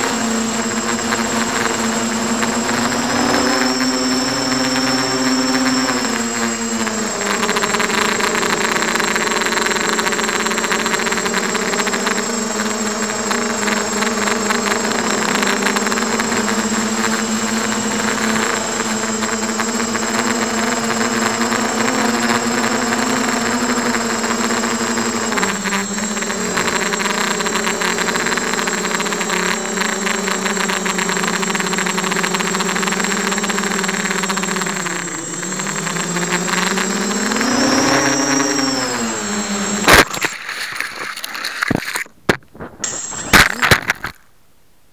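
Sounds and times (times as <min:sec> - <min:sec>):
quadcopter motors buzzing: 0:00.0 - 0:42.1, 0:42.7 - 0:44.2.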